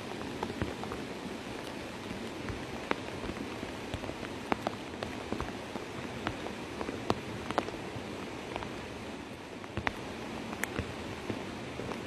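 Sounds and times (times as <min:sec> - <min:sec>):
rain on wet road: 0:00.0 - 0:12.0.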